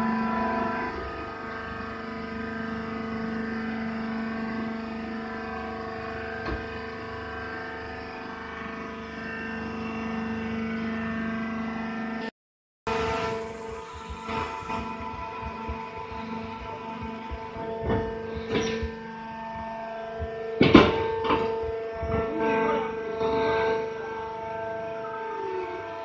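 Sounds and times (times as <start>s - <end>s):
hydraulic power unit humming: 0.0s - 12.3s, 12.9s - 26.0s.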